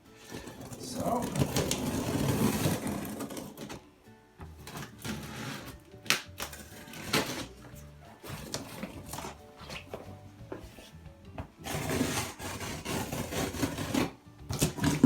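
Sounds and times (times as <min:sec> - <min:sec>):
cardboard scraping and rubbing: 0:00.0 - 0:03.8, 0:04.6 - 0:05.9, 0:06.5 - 0:11.0, 0:11.6 - 0:15.0.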